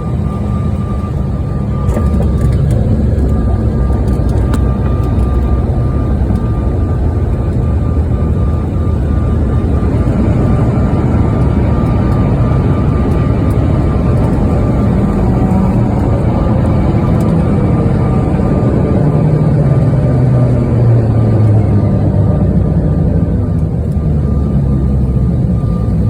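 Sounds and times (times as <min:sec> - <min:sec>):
engine rumble and rushing air: 0:00.0 - 0:26.0.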